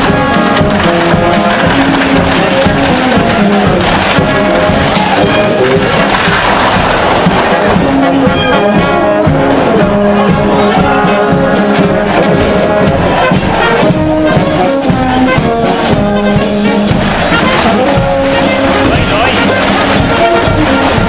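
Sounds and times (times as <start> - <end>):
brass band playing: 0.0 - 21.0.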